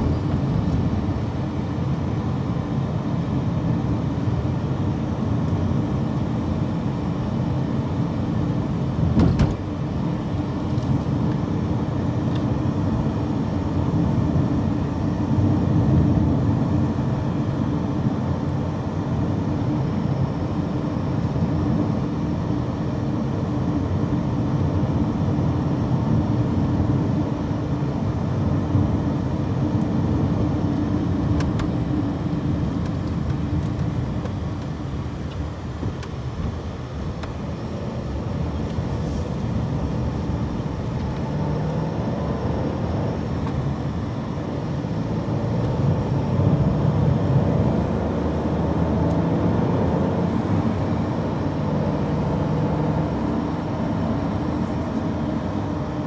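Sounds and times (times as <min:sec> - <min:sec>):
car interior road hum: 0:00.0 - 0:56.0.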